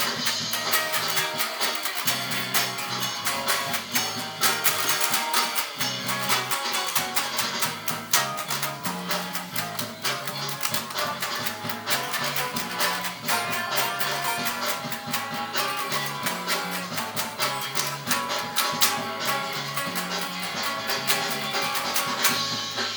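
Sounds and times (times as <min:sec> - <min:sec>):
guitar strumming chords: 0:00.0 - 0:22.9.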